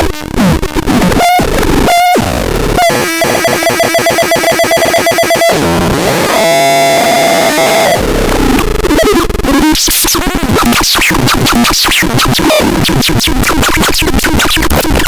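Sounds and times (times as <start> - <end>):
harsh synthesizer tones: 0.1 - 15.0.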